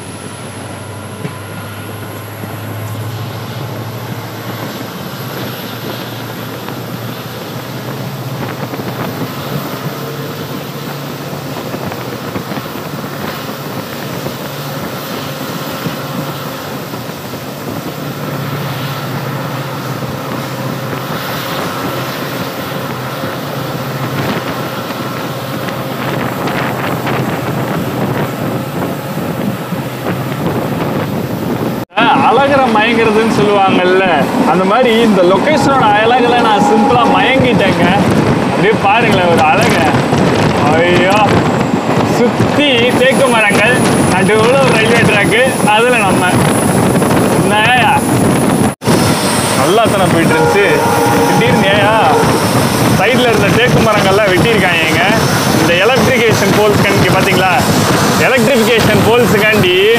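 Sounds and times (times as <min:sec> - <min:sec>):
train wheels rumbling on rails: 0:00.0 - 0:59.9
wind on microphone: 0:00.0 - 0:59.9.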